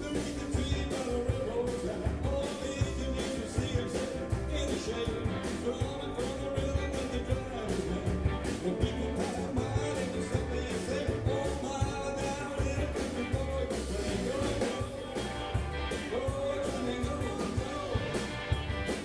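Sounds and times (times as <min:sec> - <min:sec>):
drum kit beat: 0:00.0 - 0:19.0
electric bass: 0:00.0 - 0:19.0
electric lead guitar: 0:00.0 - 0:19.0
keyboard notes: 0:00.0 - 0:19.0.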